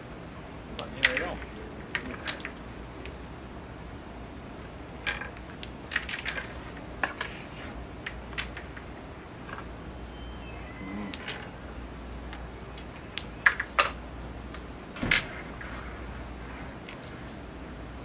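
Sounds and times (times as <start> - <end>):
low room hum: 0.0 - 18.0
wooden discs clacking: 0.6 - 3.3, 4.5 - 9.9, 10.9 - 17.2.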